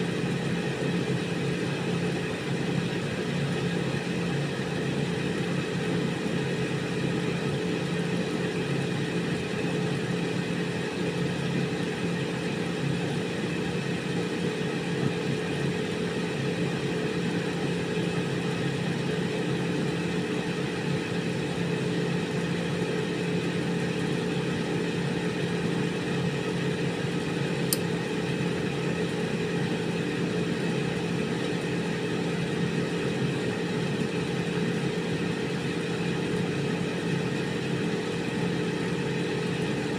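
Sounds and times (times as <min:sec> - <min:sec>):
air fryer fan hum: 0:00.0 - 0:39.9.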